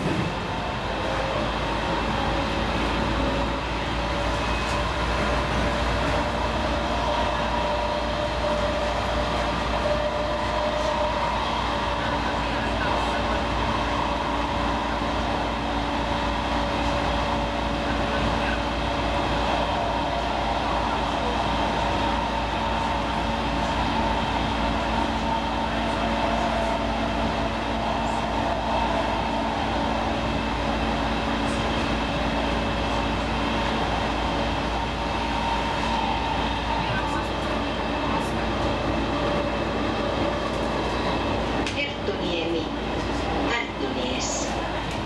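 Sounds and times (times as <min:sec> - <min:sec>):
train hum: 0:00.0 - 0:45.0
train wheels rumbling on rail: 0:00.0 - 0:45.0.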